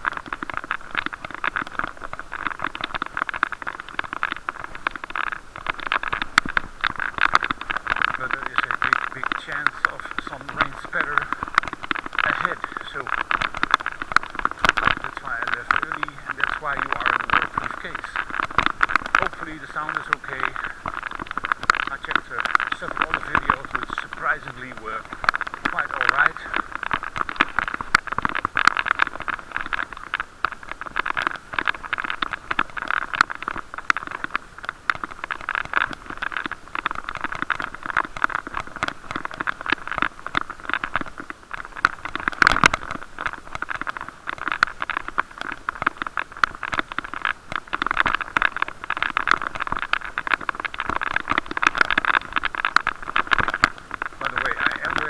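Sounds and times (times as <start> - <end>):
rattling from road vibration: 0.0 - 55.0.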